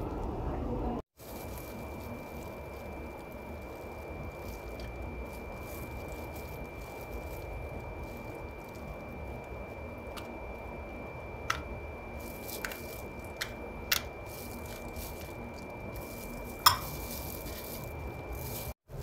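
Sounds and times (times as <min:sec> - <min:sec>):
steady high-pitched tone: 0:01.4 - 0:18.8.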